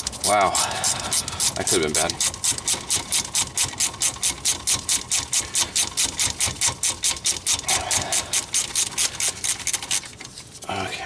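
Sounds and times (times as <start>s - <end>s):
socket ratchet clicking: 0.0s - 10.2s.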